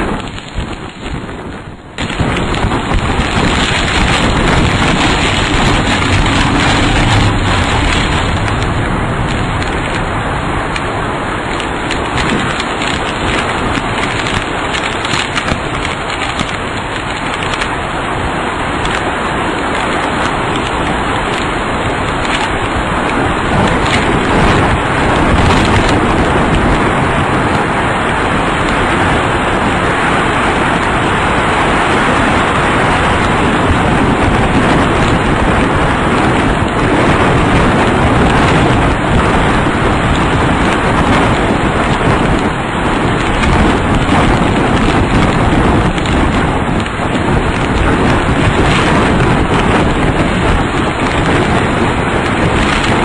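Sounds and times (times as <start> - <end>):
tornado wind and rain rushing: 0.0 - 53.0.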